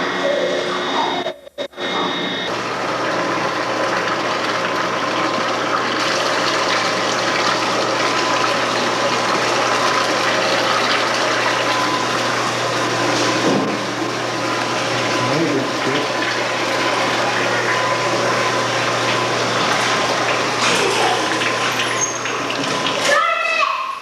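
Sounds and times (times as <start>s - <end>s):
milking machine humming: 0.0s - 24.0s.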